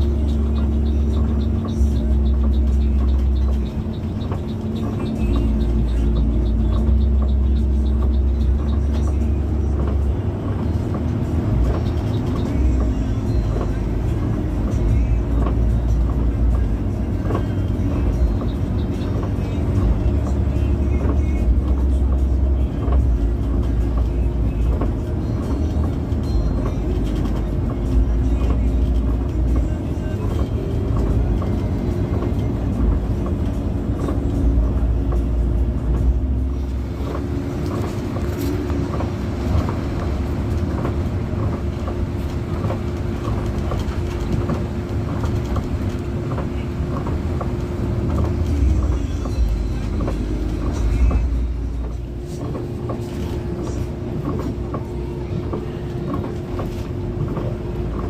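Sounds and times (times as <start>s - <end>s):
bus engine drone: 0.0s - 58.0s
music playing: 0.0s - 58.0s
road noise: 0.0s - 58.0s.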